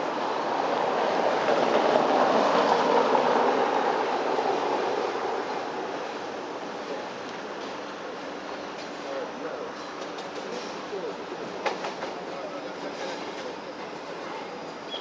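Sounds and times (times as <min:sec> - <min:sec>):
locomotive hauling train: 0:00.0 - 0:15.0.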